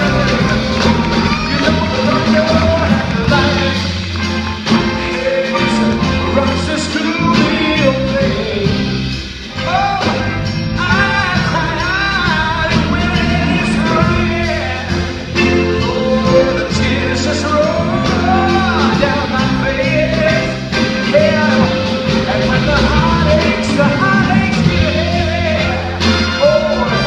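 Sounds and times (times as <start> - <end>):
bending lead melody: 0.0 - 27.0
blues-rock band music: 0.0 - 27.0.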